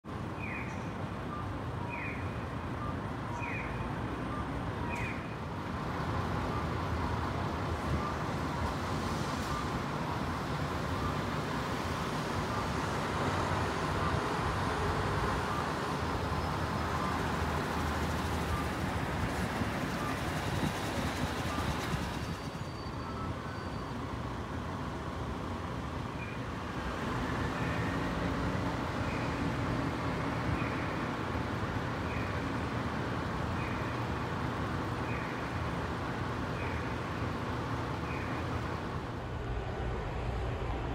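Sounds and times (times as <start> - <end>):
road traffic noise: 0.0 - 40.9.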